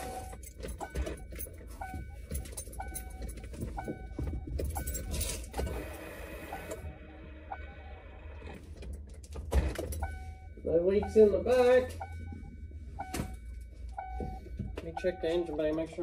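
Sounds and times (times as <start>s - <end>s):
car warning chime dinging: 0.0s - 8.6s, 9.6s - 16.0s.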